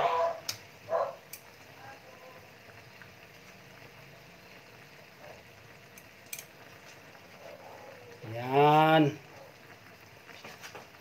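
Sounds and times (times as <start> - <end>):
food bubbling in a pan: 0.0 - 11.0.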